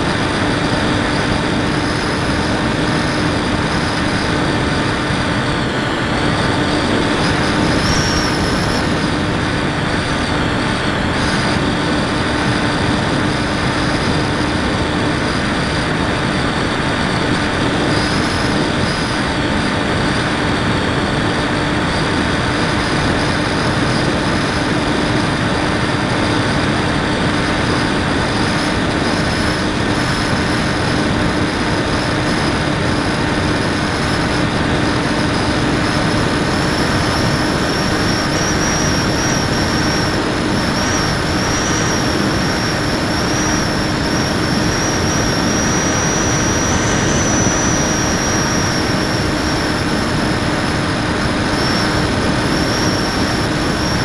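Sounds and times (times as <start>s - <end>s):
model plane motor whine: 0.0s - 54.0s
rushing wind: 0.0s - 54.0s.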